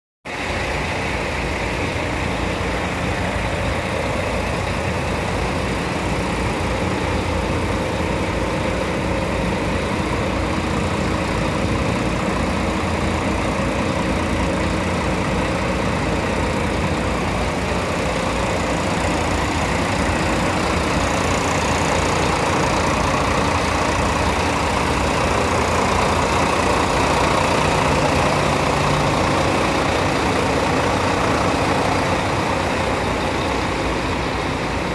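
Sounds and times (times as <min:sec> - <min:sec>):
engine idling: 0:00.2 - 0:34.9.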